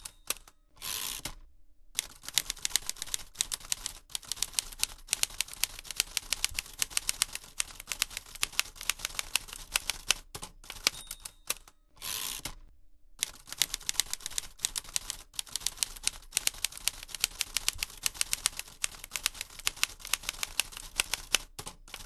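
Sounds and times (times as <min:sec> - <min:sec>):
typewriter keys clacking: 0:02.0 - 0:11.7, 0:13.2 - 0:22.0.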